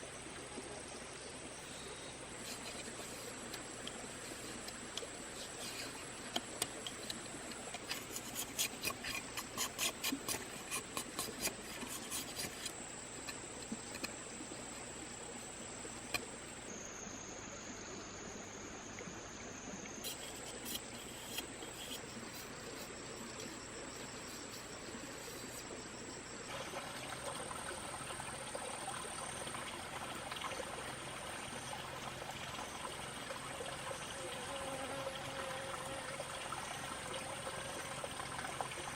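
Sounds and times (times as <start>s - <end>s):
trickling water: 0.0s - 16.8s, 18.2s - 38.9s.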